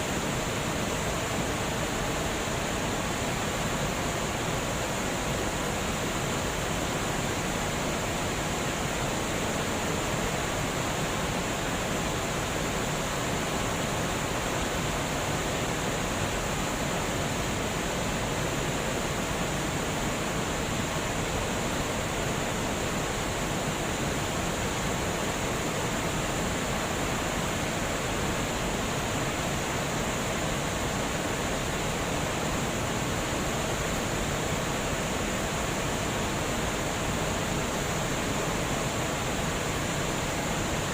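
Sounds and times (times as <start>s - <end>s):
water rushing over dam: 0.0s - 40.9s.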